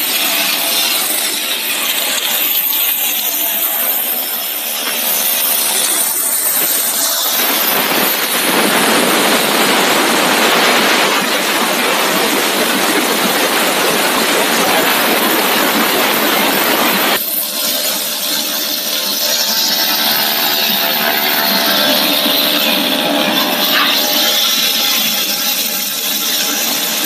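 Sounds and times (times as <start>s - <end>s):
extruder machine whirring: 0.0s - 27.0s.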